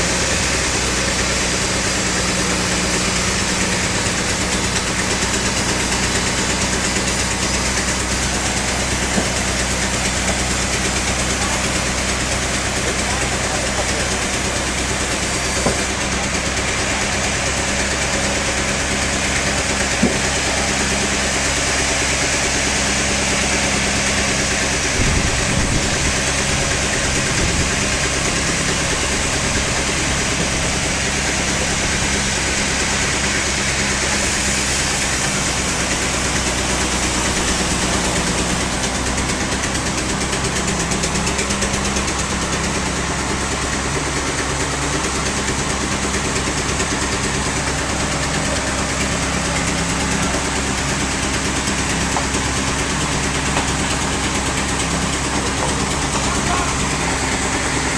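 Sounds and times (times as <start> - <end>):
hiss: 0.0 - 57.9
sawmill machinery humming: 0.0 - 57.9.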